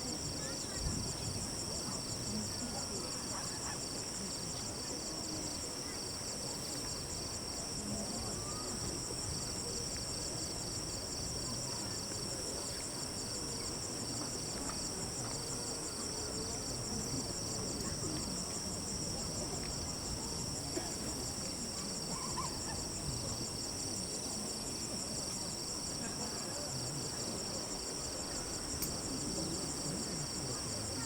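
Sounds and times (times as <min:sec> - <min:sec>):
night insects trilling: 0:00.0 - 0:31.0.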